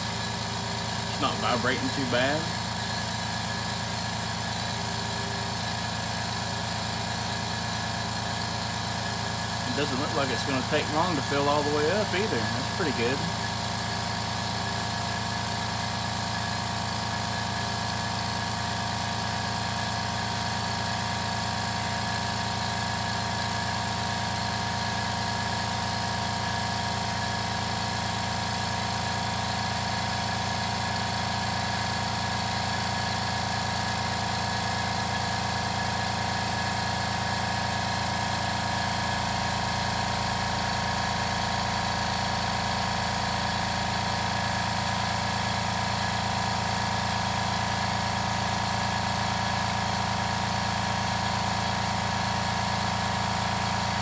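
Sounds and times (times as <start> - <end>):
air compressor running: 0.0 - 54.0.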